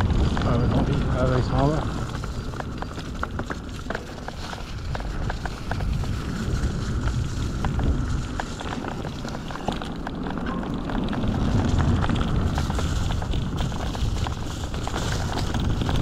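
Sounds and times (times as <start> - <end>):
bike tyres rumbling on trail: 0.0 - 16.0
small clicks and rattles: 0.0 - 16.0
wind on microphone: 0.0 - 16.0.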